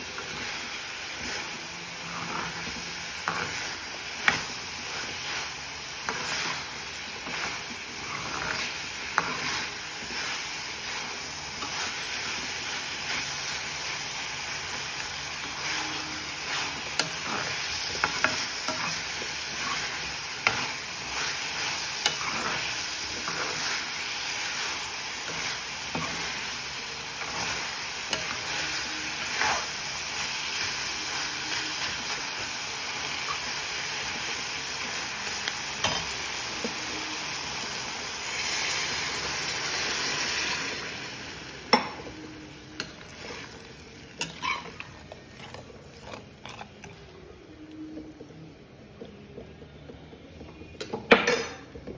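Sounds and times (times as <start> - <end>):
vegetables sizzling in a pan: 0.0 - 46.7.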